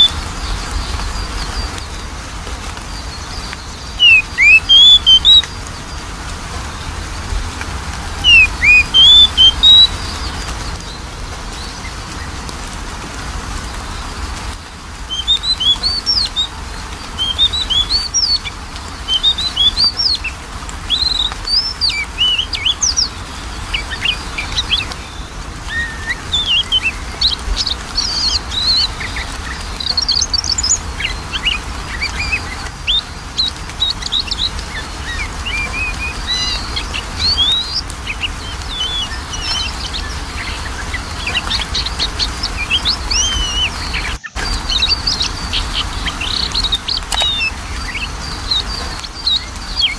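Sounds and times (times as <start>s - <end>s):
bird singing whistled notes: 2.9s - 6.0s, 8.0s - 12.0s, 15.1s - 49.9s.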